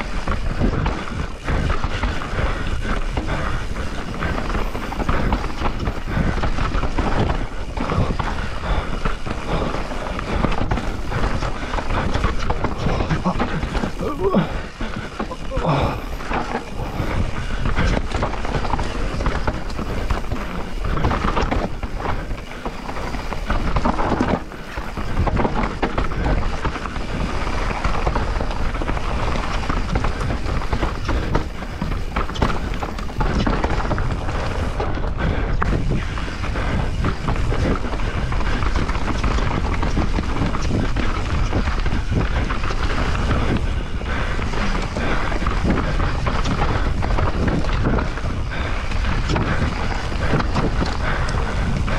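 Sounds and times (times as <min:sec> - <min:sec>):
bike knocking and rattling: 0:00.0 - 0:51.9
bike tyres on dirt: 0:00.0 - 0:51.9
wind on microphone: 0:00.0 - 0:51.9.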